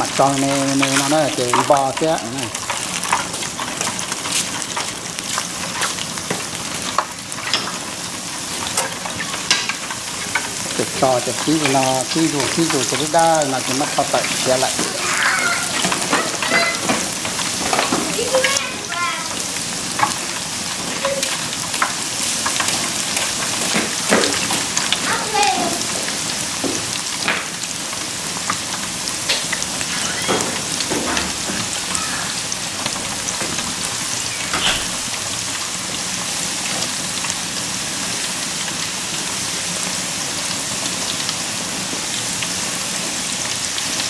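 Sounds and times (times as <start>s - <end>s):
deep-frying sizzle with pops: 0.0s - 44.0s.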